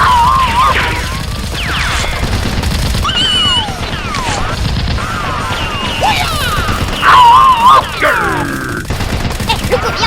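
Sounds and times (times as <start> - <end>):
rapid gunfire: 0.0 - 10.0.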